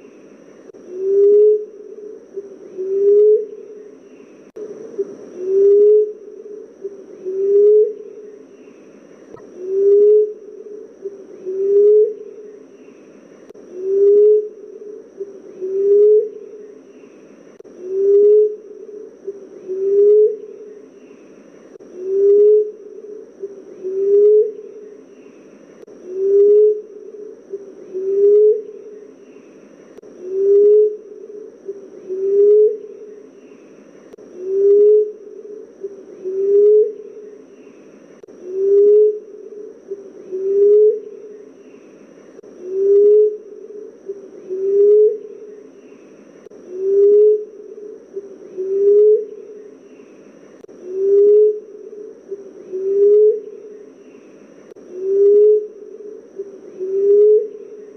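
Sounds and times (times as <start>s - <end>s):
dove cooing: 0.0s - 13.0s, 13.6s - 57.9s.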